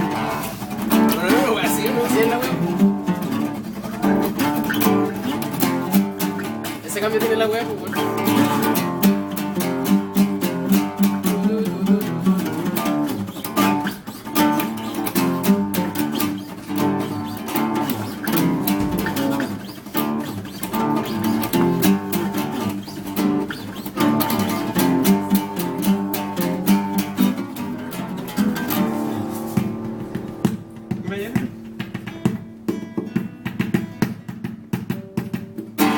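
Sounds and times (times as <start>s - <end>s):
acoustic guitars playing: 0.0s - 35.9s.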